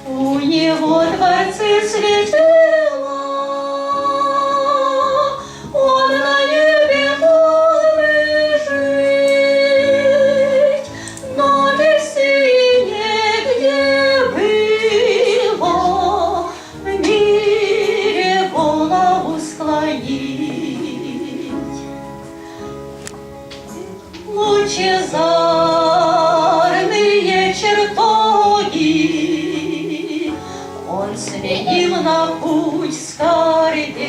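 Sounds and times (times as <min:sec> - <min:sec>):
woman singing a hymn: 0:00.0 - 0:22.0, 0:23.7 - 0:34.0
backing accompaniment: 0:00.0 - 0:34.0.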